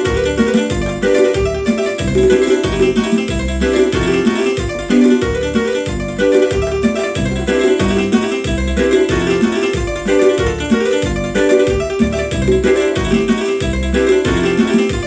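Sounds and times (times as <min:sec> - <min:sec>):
bass notes: 0:00.0 - 0:15.0
hi-hat ticks: 0:00.0 - 0:15.0
keyboard lead melody: 0:00.0 - 0:15.0.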